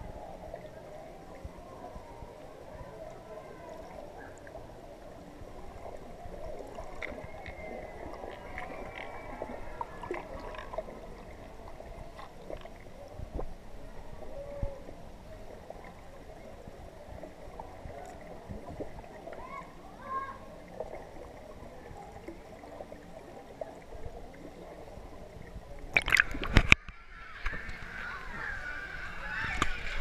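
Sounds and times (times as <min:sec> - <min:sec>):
muffled underwater gurgling: 0:00.0 - 0:30.0.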